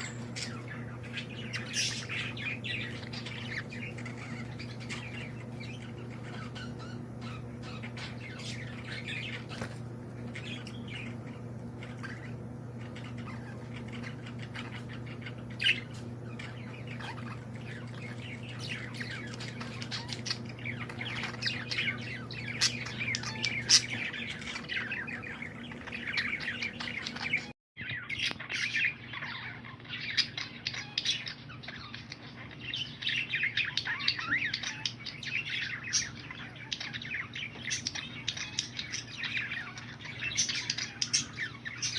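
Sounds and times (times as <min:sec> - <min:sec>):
small birds chirping: 0:00.0 - 0:41.9
steady low hum: 0:00.0 - 0:41.9.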